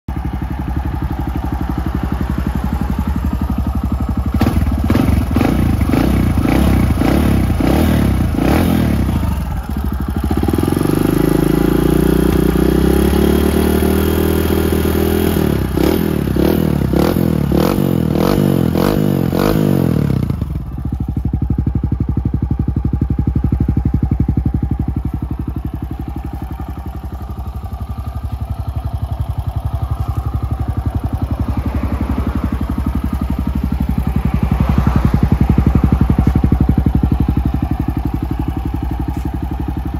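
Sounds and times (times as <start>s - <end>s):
motorcycle engine idling and revving: 0.1s - 39.9s.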